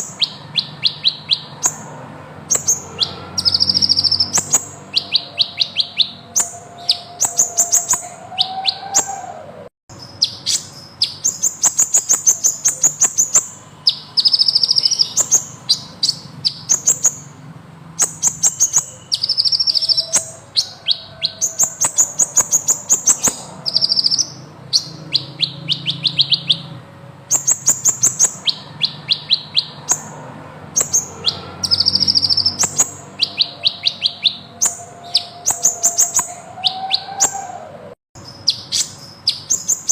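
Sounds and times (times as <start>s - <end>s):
bird singing high trills: 0.0s - 17.4s, 18.0s - 39.9s.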